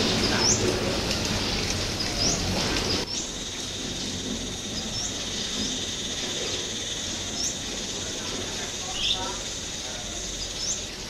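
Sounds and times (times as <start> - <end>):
high-pitched insect-like hum: 0.0 - 11.0
wild birds chirping: 0.0 - 11.0.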